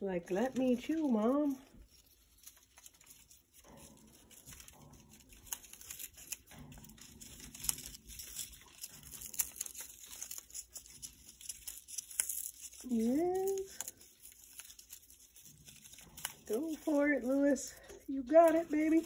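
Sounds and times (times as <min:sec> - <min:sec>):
parrot shredding cardboard: 0:00.3 - 0:19.0.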